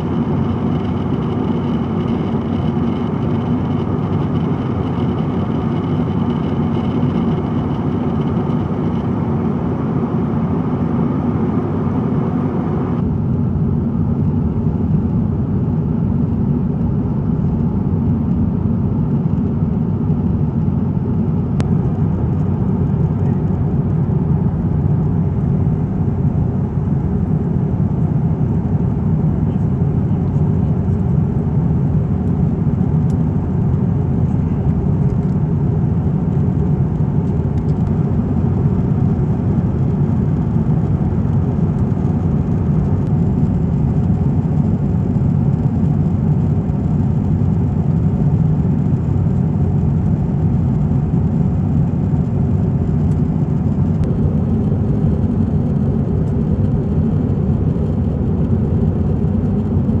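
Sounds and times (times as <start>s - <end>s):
airplane cabin engine drone: 0.0s - 60.0s.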